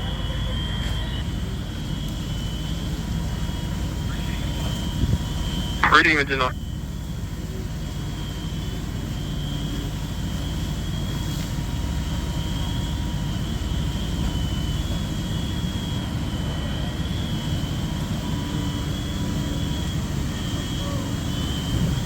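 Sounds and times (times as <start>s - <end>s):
diesel engines rumbling: 0.0s - 22.0s.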